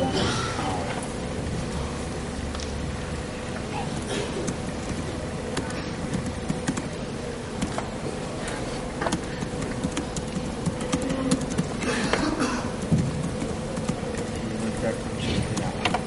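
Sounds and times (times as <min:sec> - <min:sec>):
steady hall hum: 0:00.0 - 0:16.0.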